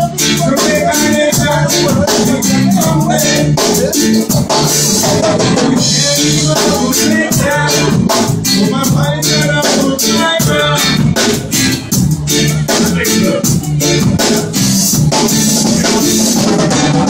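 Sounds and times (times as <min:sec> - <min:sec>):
bass line: 0:00.0 - 0:17.0
drum kit: 0:00.0 - 0:17.0
electric guitar: 0:00.0 - 0:17.0
keyboards: 0:00.0 - 0:17.0.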